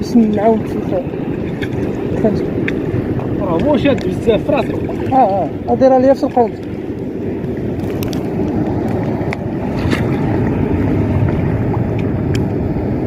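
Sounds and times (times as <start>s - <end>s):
sea: 0.0s - 13.0s
wind on microphone: 0.0s - 13.0s.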